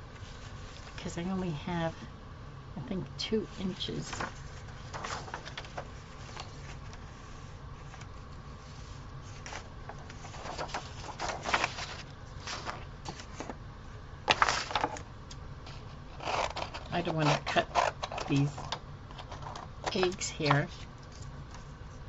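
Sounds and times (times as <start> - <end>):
faint low hum: 0.0 - 22.0
paper rustling: 0.1 - 1.1, 3.6 - 13.6, 14.3 - 15.1, 15.7 - 21.7.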